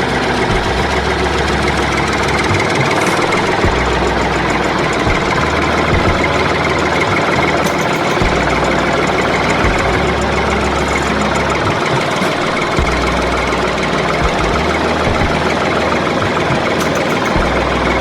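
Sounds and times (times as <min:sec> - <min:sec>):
deep low rumble: 0:00.0 - 0:16.8
engine running: 0:00.0 - 0:18.0.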